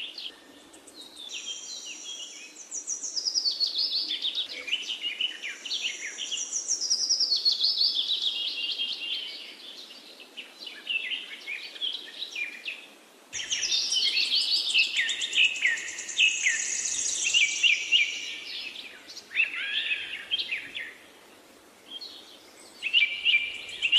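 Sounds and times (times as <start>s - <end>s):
songbirds chirping and trilling: 0.0s - 23.9s.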